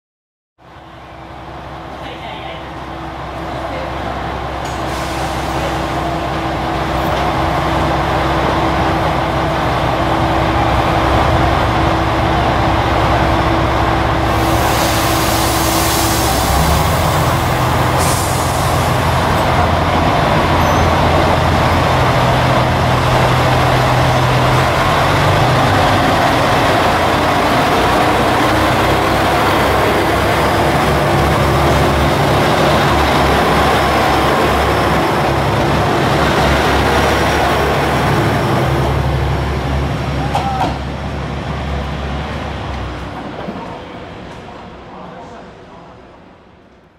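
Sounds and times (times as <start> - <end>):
diesel train engines under load: 0.6 - 46.9.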